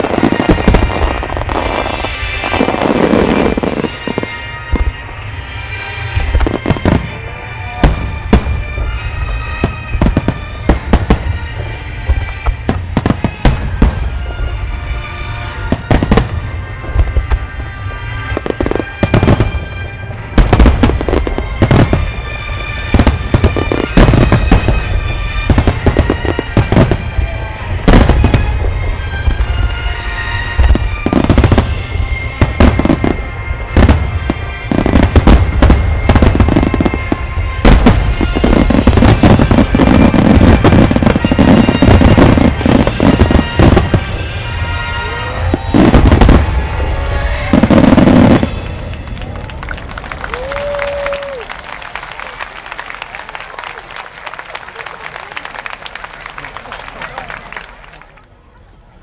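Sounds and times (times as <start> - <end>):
music with long held notes: 0.0 - 50.4.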